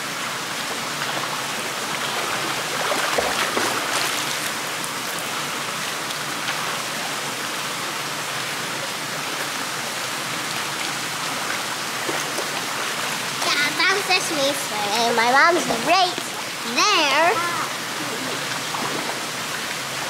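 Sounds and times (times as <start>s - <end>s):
swimming pool water splashing: 0.0s - 20.0s.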